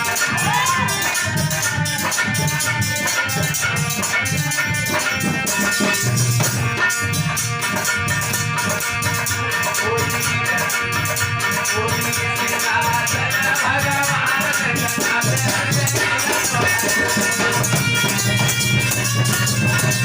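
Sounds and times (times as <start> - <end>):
shaken jingling percussion: 0.0 - 20.0.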